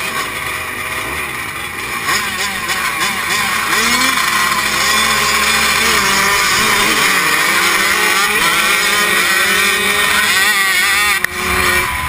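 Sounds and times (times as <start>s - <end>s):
motocross bikes at full throttle: 0.0s - 12.0s.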